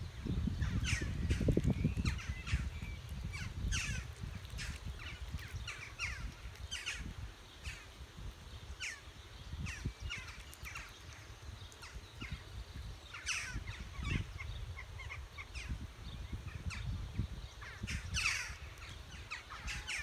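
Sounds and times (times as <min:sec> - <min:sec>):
birds calling: 0:00.5 - 0:08.0, 0:08.6 - 0:20.0.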